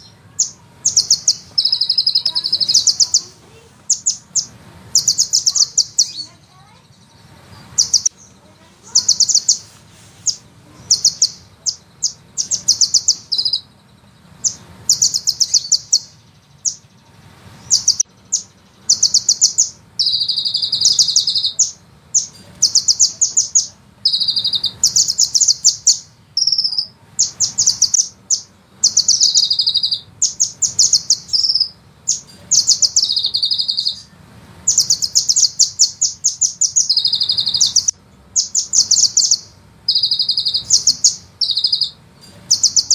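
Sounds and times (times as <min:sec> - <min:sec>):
faint low hum: 0:00.0 - 0:42.9
sunbird trilling: 0:00.0 - 0:42.9.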